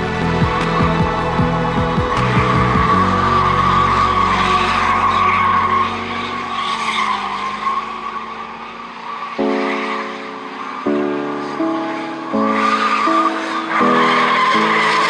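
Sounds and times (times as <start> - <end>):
car engine: 0.0 - 15.0
electronic music: 0.0 - 15.0.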